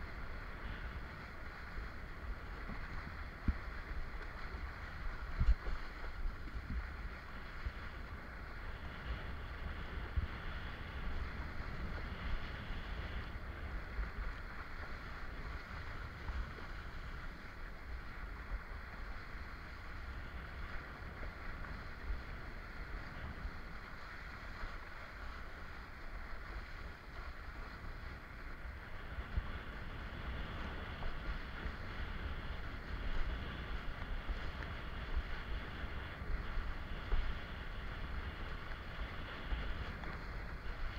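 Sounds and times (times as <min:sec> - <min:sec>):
rushing water: 0:00.0 - 0:40.9
wind buffeting microphone: 0:00.0 - 0:40.9.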